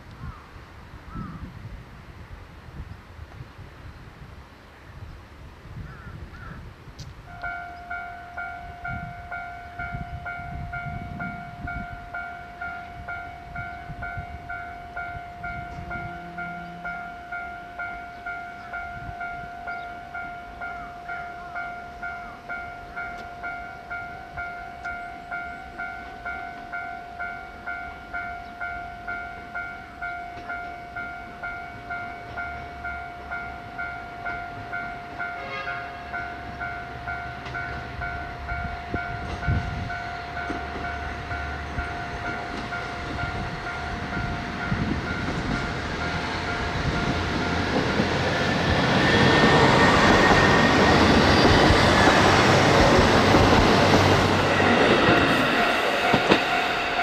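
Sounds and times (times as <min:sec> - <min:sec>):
level crossing alarm dinging: 0:07.3 - 0:57.0.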